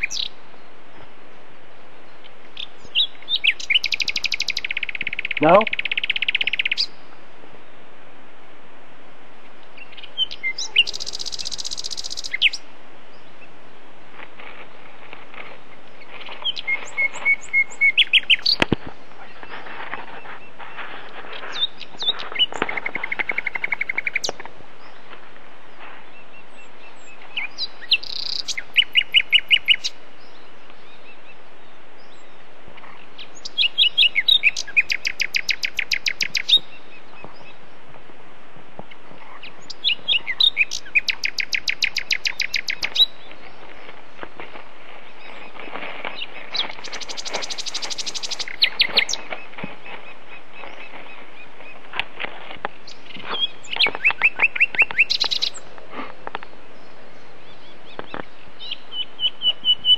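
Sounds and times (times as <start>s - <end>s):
songbird singing: 0.0s - 59.9s
steady hiss: 0.0s - 59.9s.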